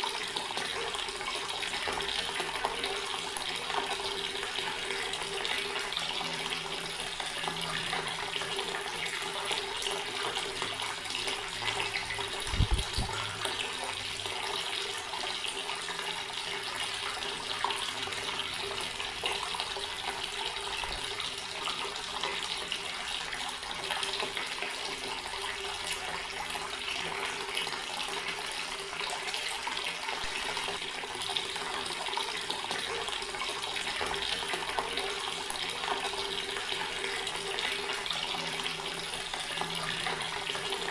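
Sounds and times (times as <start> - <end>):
water running from tap: 0.0 - 40.9.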